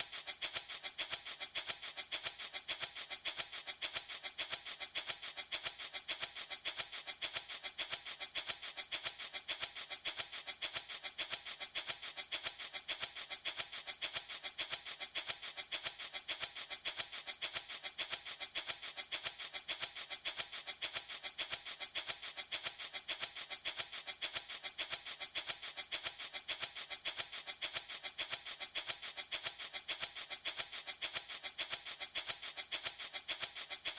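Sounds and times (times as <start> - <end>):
baby rattle shaking: 0.0 - 33.9.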